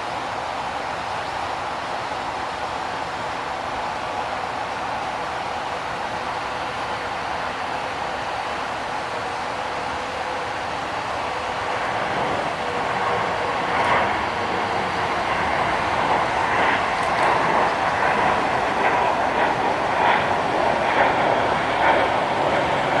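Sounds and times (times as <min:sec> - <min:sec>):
jet airliner engines rushing: 0:00.0 - 0:23.0.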